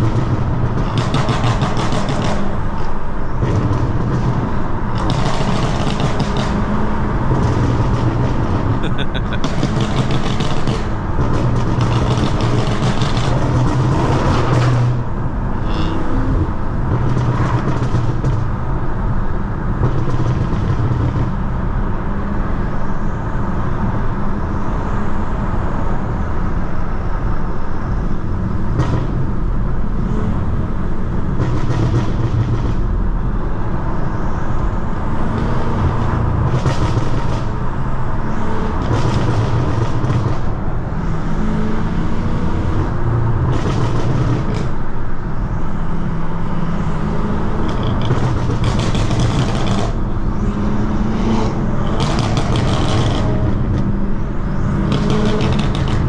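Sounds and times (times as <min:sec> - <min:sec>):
car engine running while driving: 0:00.0 - 0:56.0
tyre and road noise: 0:00.0 - 0:56.0.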